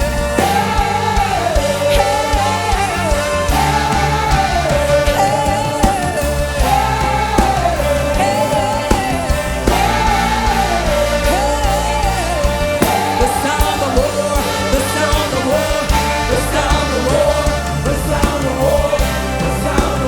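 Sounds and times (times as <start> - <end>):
band with bass and drums: 0.0 - 20.0
person singing: 0.0 - 20.0.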